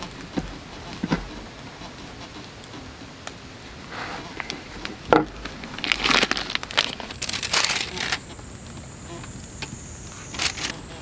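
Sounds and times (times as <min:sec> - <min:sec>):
crust crackling and crunching: 0:00.0 - 0:11.0.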